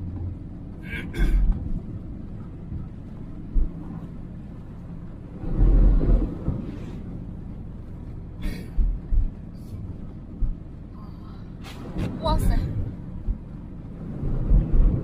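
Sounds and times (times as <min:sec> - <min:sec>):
vehicle driving through heavy rain: 0:00.0 - 0:10.9, 0:11.5 - 0:15.0.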